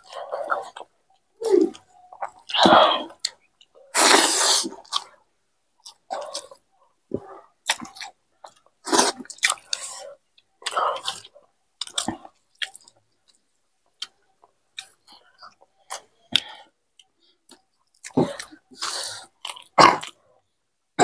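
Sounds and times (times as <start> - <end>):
people chewing and smacking: 0.0 - 20.4.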